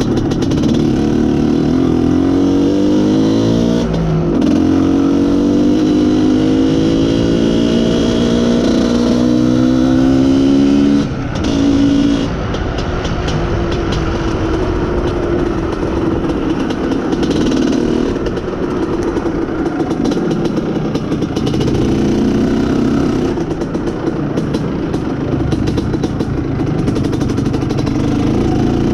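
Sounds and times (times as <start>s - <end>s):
two-stroke motorcycle engine running: 0.0s - 28.9s.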